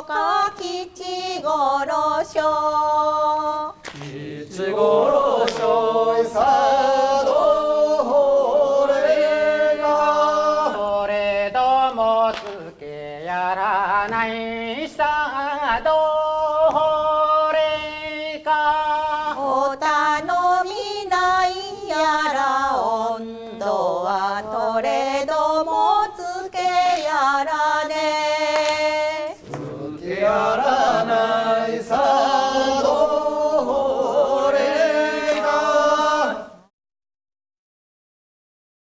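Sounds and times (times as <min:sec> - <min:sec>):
voices singing folk song: 0:00.0 - 0:36.7.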